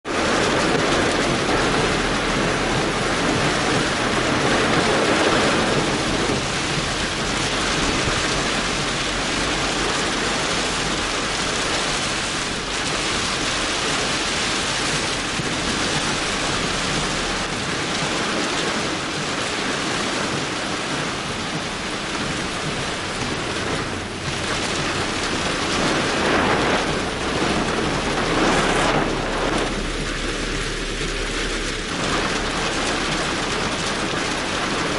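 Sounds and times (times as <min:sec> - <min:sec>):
heavy rain on car: 0:00.0 - 0:34.9.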